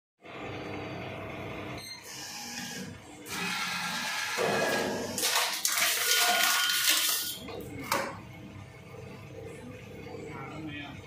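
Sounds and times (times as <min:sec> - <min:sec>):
machine whirring and rattling: 0:00.3 - 0:10.3.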